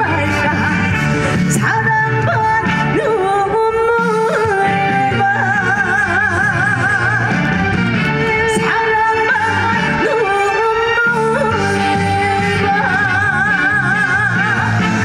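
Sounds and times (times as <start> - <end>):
woman singing: 0.0 - 7.5, 8.2 - 15.0
loud backing music: 0.0 - 15.0.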